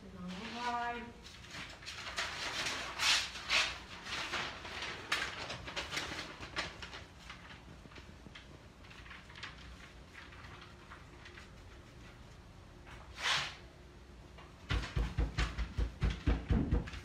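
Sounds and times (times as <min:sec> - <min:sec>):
paper and fabric rustling: 0:00.0 - 0:13.7.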